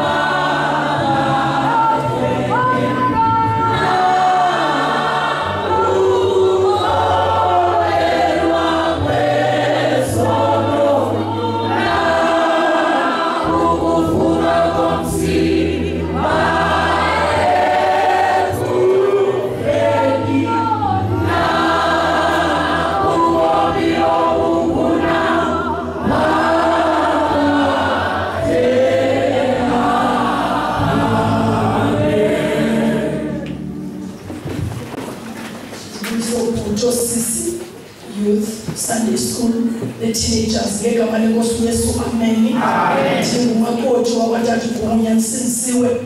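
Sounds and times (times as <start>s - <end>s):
congregation singing: 0.0s - 35.4s, 41.0s - 46.0s.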